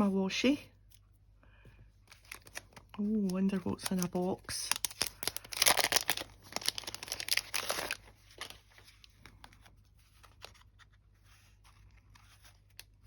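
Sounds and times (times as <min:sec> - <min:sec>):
paper packaging crinkling: 0:02.0 - 0:13.0.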